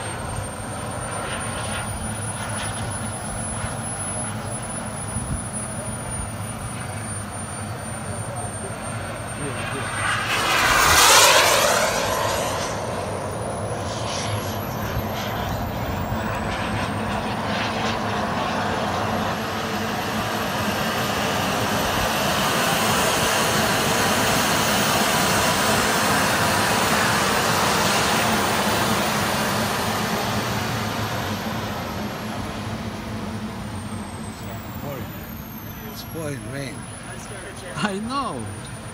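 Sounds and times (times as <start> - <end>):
model jet engine whine: 0.0 - 38.9.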